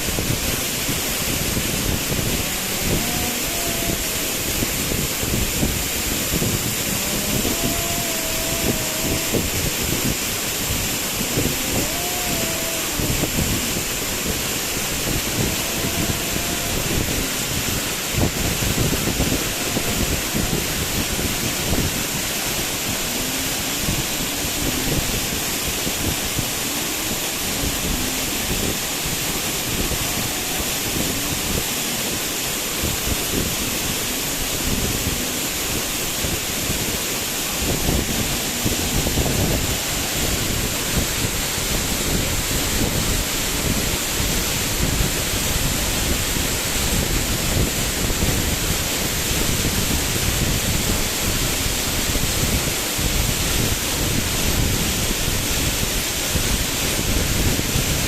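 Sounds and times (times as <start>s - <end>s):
waterfall rushing: 0.0s - 58.0s
wind buffeting microphone: 0.0s - 58.0s.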